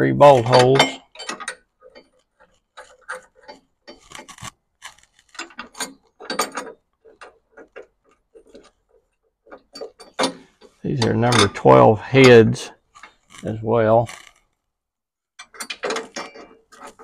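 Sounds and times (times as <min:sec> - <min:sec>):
light metal clicks and scrapes: 0:00.2 - 0:14.6, 0:15.4 - 0:17.0.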